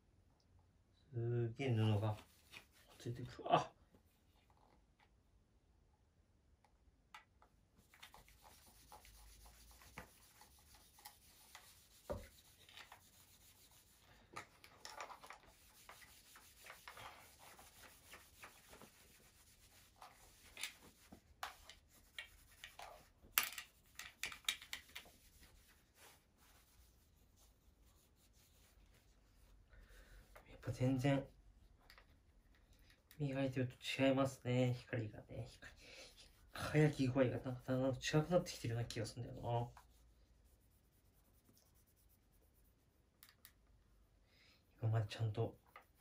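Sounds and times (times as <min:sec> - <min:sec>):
cloth wiping a gun: 0:01.8 - 0:04.9, 0:07.7 - 0:33.5, 0:34.8 - 0:43.6, 0:44.7 - 0:46.0.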